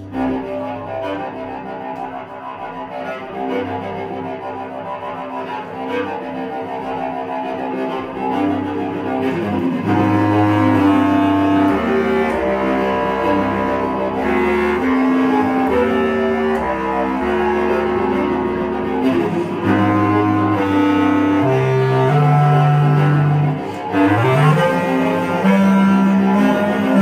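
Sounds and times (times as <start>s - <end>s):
bass clarinet: 0.0s - 27.0s
bowed cello: 0.0s - 27.0s.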